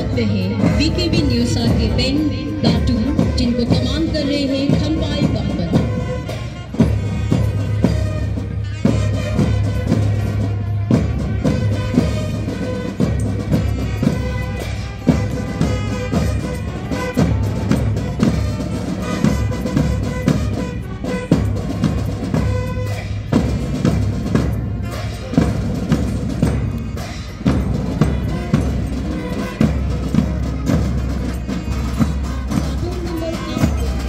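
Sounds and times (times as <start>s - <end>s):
brass horns: 0.0s - 34.0s
marching band playing: 0.0s - 34.0s
snare and bass drums: 0.0s - 34.0s.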